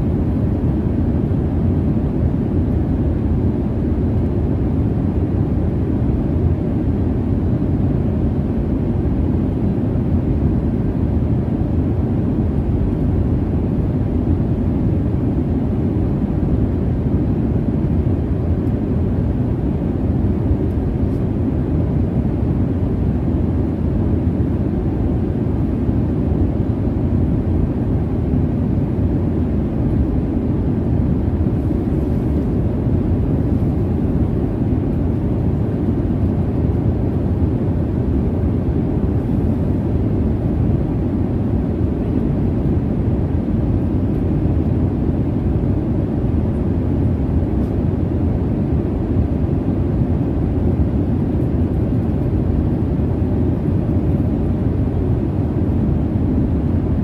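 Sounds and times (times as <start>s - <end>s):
airliner cabin jet engine rumble: 0.0s - 57.0s.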